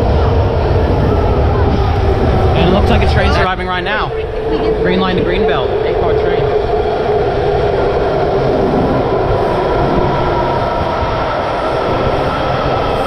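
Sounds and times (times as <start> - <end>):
high train whine: 0.0 - 13.0
subway train rumbling: 0.0 - 13.0.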